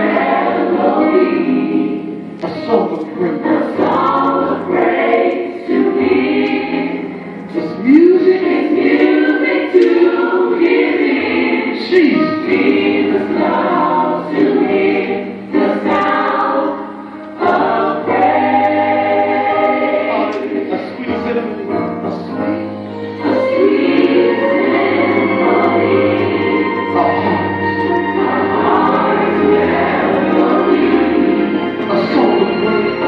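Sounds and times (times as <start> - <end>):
gospel choir singing: 0.0 - 33.0.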